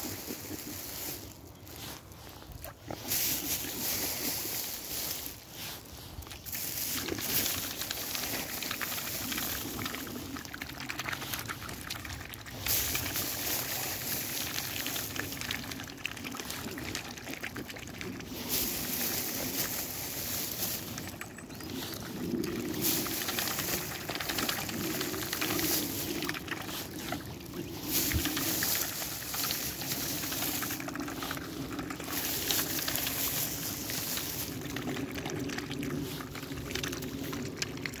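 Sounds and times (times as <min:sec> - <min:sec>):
swans dabbling in shallow water: 0:00.0 - 0:38.0.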